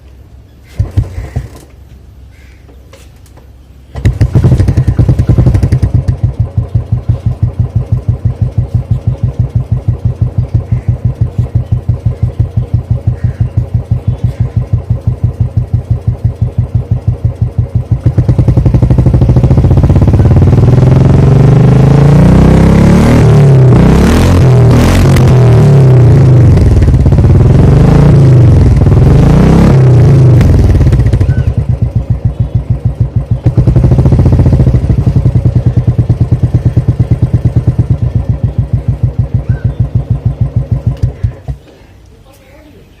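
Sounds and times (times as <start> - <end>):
motorcycle engine idling: 0.6 - 1.8, 3.8 - 42.0
motorcycle engine starting: 0.6 - 1.8, 3.9 - 42.0
motorcycle engine revving: 0.7 - 1.6, 4.0 - 41.7.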